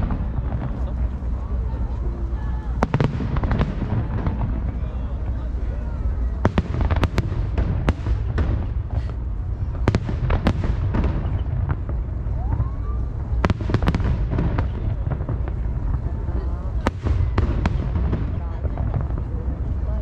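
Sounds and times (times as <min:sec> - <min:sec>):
continuous low rumble: 0:00.0 - 0:20.0.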